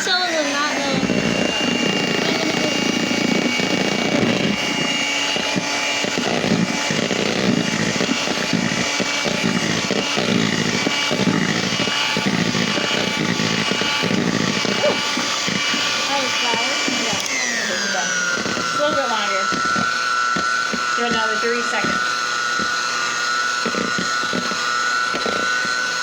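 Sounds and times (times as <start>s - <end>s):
beaters churning mix in bowl: 0.0s - 26.0s
electric hand mixer whining: 0.0s - 26.0s.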